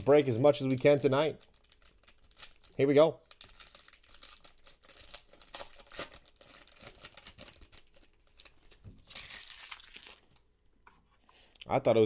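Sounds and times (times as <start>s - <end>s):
foil pack tearing and crinkling: 0.6s - 10.3s.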